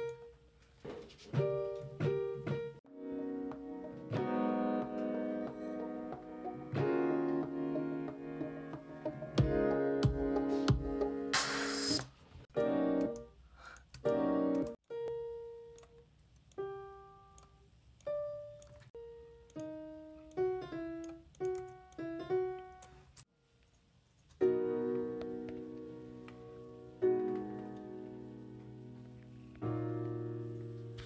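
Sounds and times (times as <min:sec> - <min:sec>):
piano notes and chords: 0:00.0 - 0:13.4, 0:14.0 - 0:23.1, 0:24.4 - 0:31.0.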